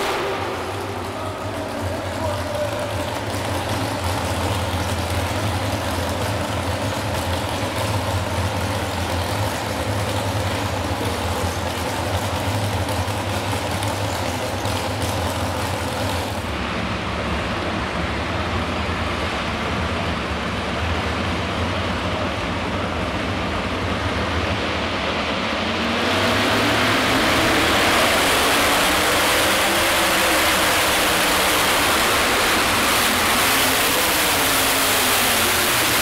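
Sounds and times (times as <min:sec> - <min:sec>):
tractor engines idling: 0:00.0 - 0:36.0.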